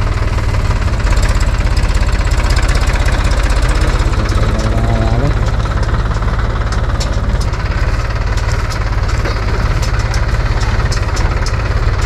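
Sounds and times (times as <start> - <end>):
tractor diesel engine chugging: 0.0 - 12.0.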